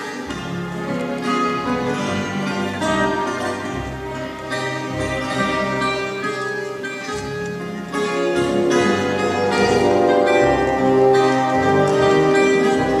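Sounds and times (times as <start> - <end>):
orchestral bowed strings: 0.0 - 13.0
plucked guitars: 0.0 - 13.0.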